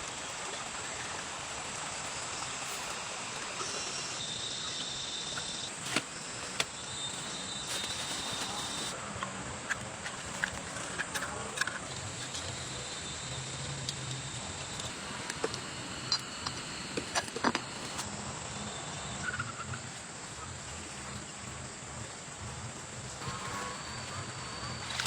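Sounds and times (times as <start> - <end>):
insects chirping: 0.0 - 25.0
steady outdoor hiss: 0.0 - 25.0.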